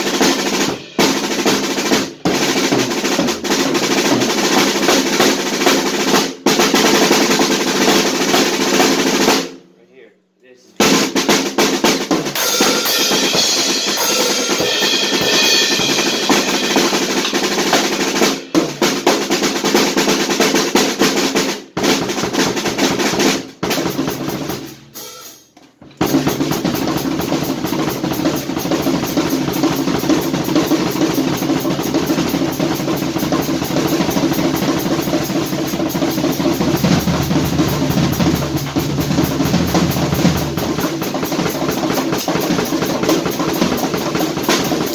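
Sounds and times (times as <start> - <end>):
acoustic drum kit playing: 0.0 - 9.6, 10.8 - 44.9.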